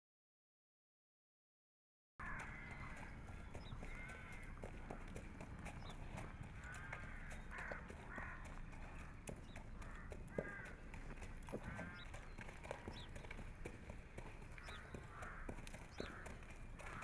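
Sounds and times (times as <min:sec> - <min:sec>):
birds calling: 0:02.2 - 0:17.0
horse hooves clopping on sand: 0:02.2 - 0:17.0.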